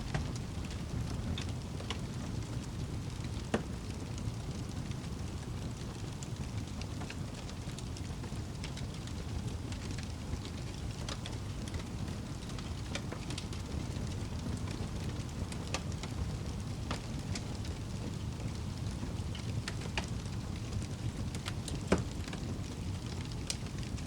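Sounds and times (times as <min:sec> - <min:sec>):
fire crackles and pops: 0:00.0 - 0:24.0
wood fire rumbling: 0:00.0 - 0:24.0.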